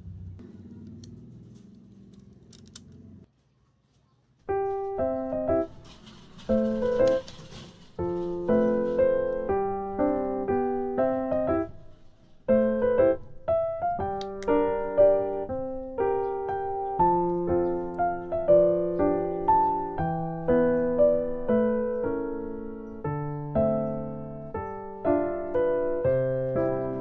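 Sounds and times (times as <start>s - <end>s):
gentle piano melody: 4.5s - 27.0s.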